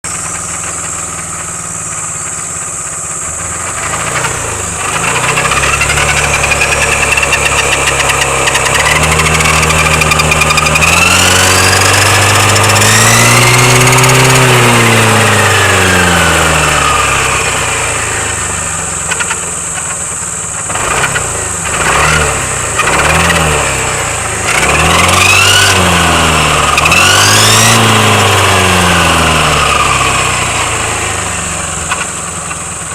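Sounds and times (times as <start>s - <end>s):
gear reducer droning and whining: 0.0s - 32.9s.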